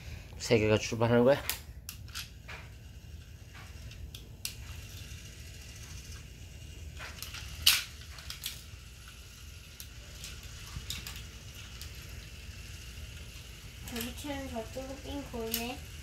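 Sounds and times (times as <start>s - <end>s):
faint motor whir: 0.0s - 16.0s
toy train cars clacking: 1.3s - 16.0s.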